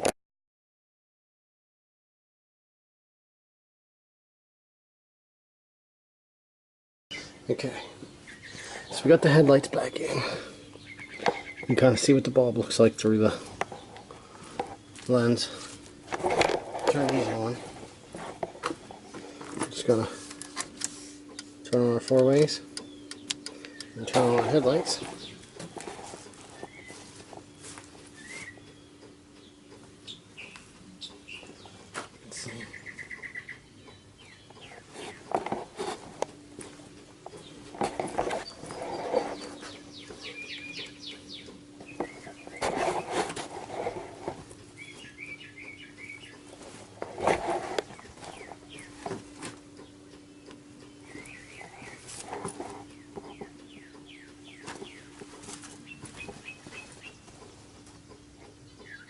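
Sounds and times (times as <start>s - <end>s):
birds chirping and trilling: 7.1s - 59.0s
steady low hum: 7.1s - 59.0s.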